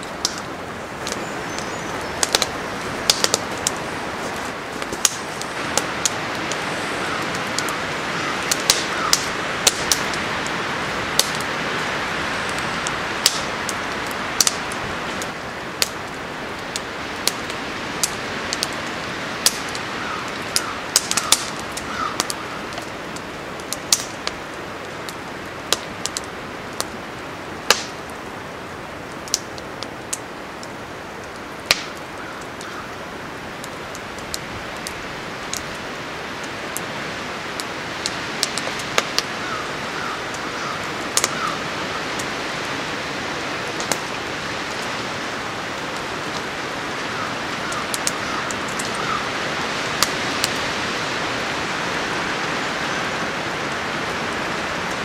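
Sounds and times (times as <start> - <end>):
wind through trees: 0.0 - 55.0
wood fire crackling and popping: 0.0 - 55.0.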